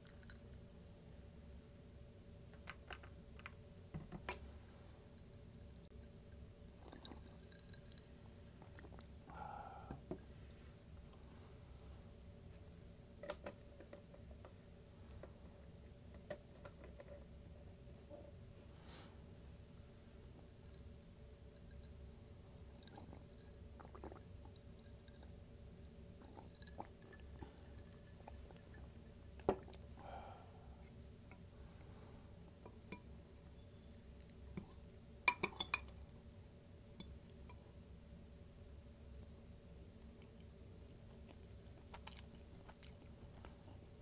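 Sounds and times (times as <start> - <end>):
soft chewing: 0.0 - 3.7, 4.3 - 17.3, 18.1 - 44.0
steady low hum: 0.0 - 44.0.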